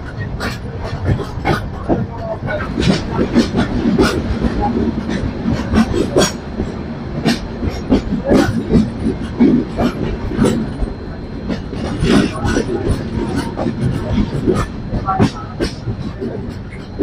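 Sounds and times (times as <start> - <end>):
steady train rumble: 0.0 - 17.0
train wheels clattering over joints: 0.0 - 17.0.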